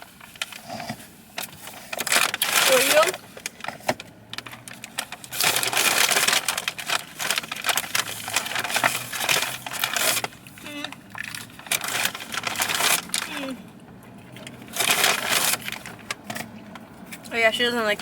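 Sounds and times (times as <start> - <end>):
paper bags and wrappers rustling: 0.0 - 18.0.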